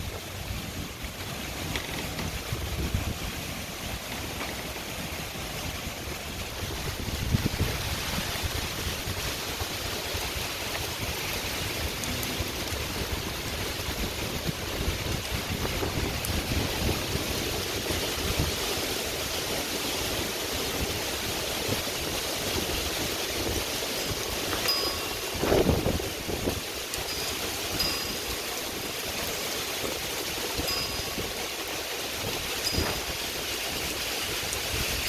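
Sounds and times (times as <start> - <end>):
gusting wind rumble: 0.0 - 29.2
heavy rain downpour: 0.0 - 35.0.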